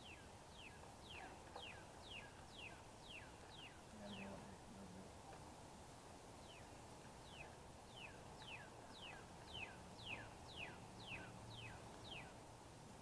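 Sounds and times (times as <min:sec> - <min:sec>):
faint whistled bird song: 0:00.0 - 0:04.6, 0:06.4 - 0:12.5.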